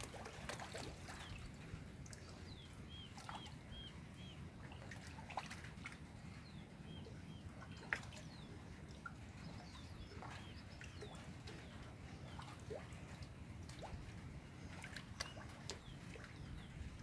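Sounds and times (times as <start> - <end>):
birds chirping faintly: 0.0 - 17.0
steady low rumble: 0.0 - 17.0.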